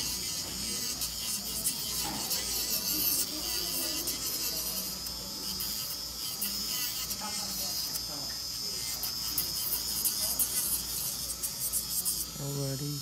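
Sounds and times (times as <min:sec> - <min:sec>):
electric nail drill whining: 0:00.0 - 0:13.0.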